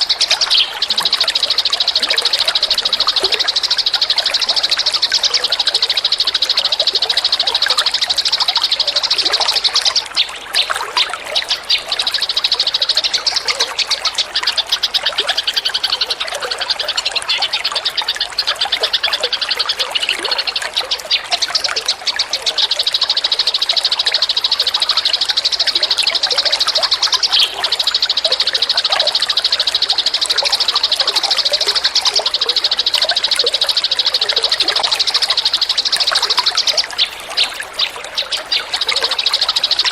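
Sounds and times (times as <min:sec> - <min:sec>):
bird chirps: 0:00.0 - 0:39.9
songbird high-pitched trill: 0:00.0 - 0:39.9.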